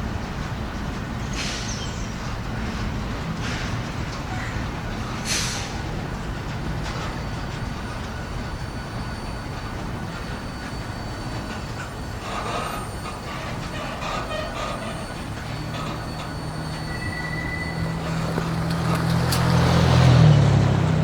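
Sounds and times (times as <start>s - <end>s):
train cars rumbling: 0.0s - 21.0s
wheels squealing: 0.2s - 21.0s.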